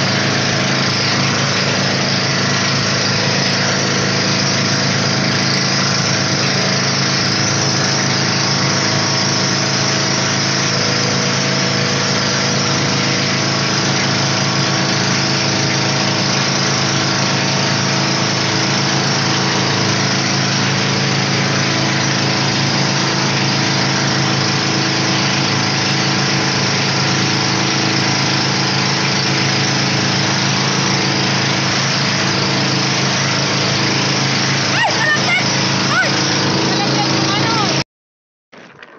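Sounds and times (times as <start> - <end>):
boat motor running: 0.0 - 37.8.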